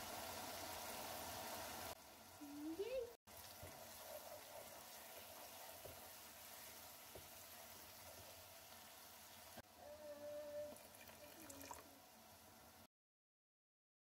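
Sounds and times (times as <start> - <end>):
onions sizzling in oil: 0.0 - 12.9.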